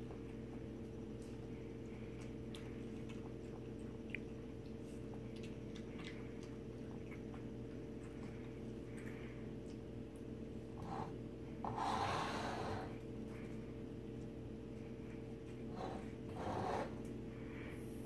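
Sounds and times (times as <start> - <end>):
animals lapping water from bowl: 0.0 - 17.6
steady low hum: 0.0 - 18.0.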